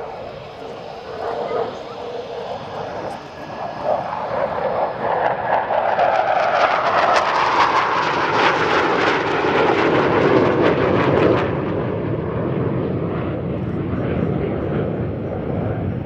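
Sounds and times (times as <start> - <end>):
jet engines rushing on a flyby: 0.0 - 16.0.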